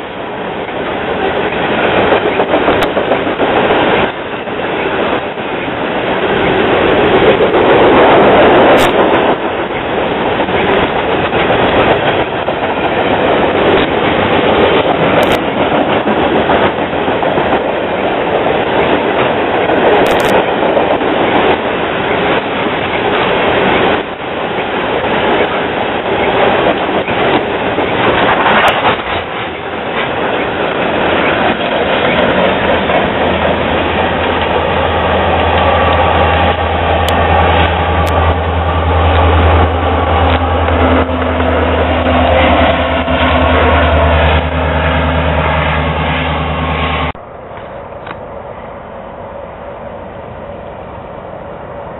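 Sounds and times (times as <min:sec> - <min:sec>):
diesel locomotive engines droning: 0:00.0 - 0:51.9
train wheels rumbling on rails: 0:00.0 - 0:51.9.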